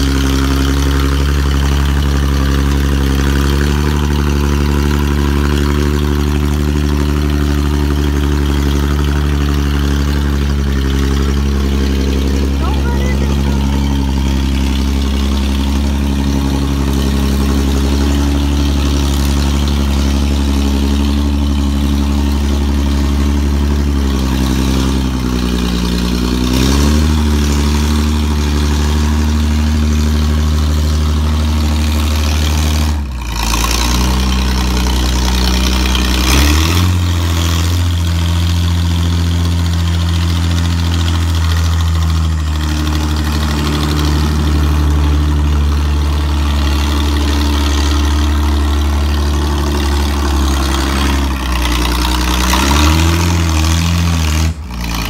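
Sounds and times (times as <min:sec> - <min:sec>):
backhoe engine running under load: 0:00.0 - 0:55.0.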